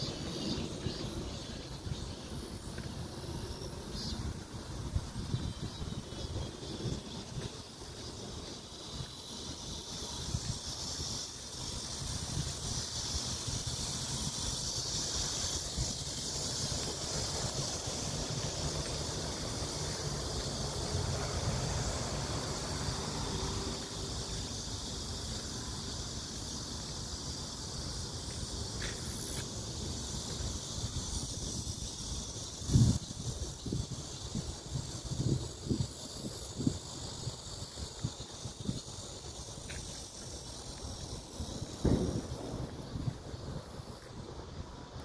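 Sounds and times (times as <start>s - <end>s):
wind buffeting microphone: 0.0s - 23.9s, 30.0s - 45.0s
steady high hiss: 0.0s - 45.0s.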